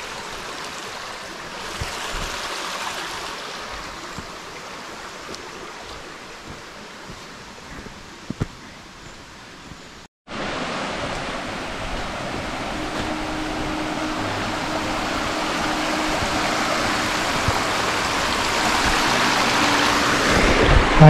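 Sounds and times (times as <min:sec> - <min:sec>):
stream rushing over rocks: 0:00.0 - 0:08.5, 0:10.3 - 0:21.0.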